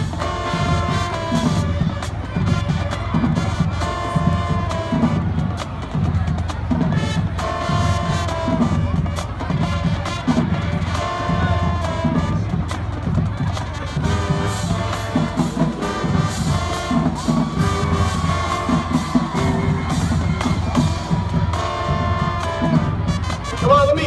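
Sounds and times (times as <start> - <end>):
brass melody: 0.0 - 24.0
crowd cheering: 0.0 - 24.0
steady drumbeat: 0.0 - 24.0.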